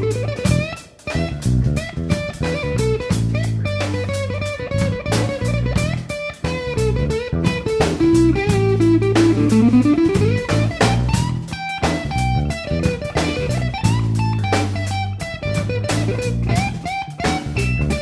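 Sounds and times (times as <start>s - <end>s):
bluesy instrumental music: 0.0s - 18.0s.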